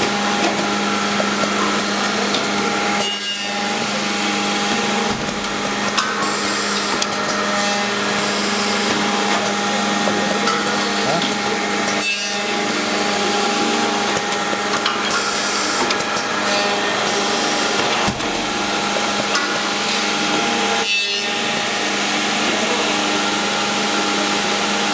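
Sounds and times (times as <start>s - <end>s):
milling cutter machining wood: 0.0s - 24.9s.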